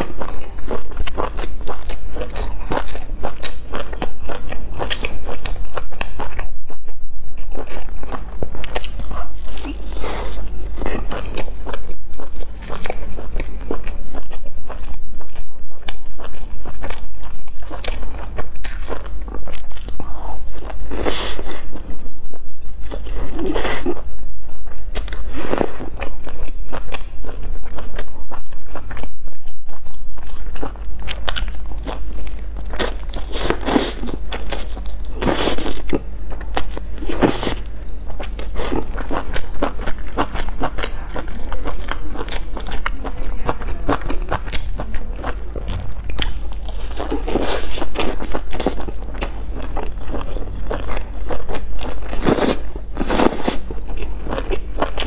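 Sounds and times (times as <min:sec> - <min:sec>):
crunchy biting and chewing: 0:00.0 - 0:55.0.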